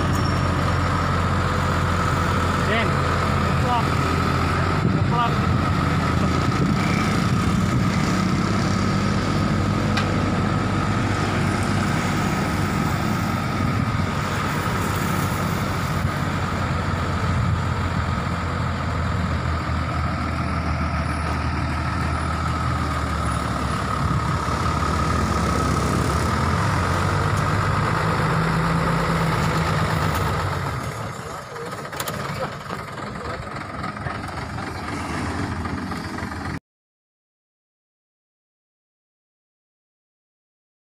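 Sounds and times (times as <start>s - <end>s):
diesel truck engine running: 0.0s - 36.6s.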